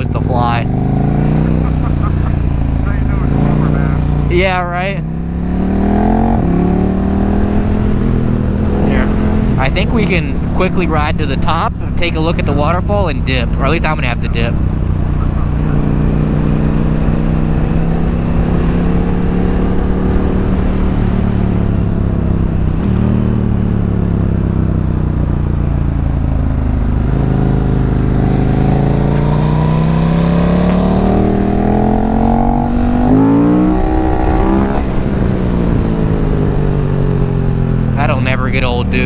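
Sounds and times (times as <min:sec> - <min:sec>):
motorcycle engine: 0:00.0 - 0:39.0.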